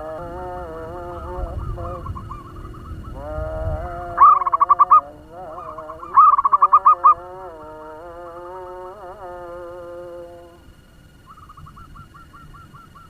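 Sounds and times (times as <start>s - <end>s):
dove staccato cooing: 0.0s - 13.0s
wavering melodic drone: 0.0s - 13.0s.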